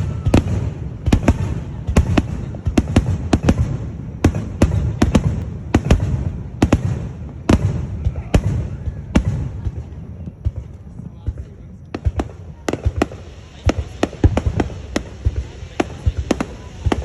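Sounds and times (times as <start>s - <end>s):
fireworks bangs: 0.0s - 17.0s
low rumble of echoing explosions: 0.0s - 17.0s.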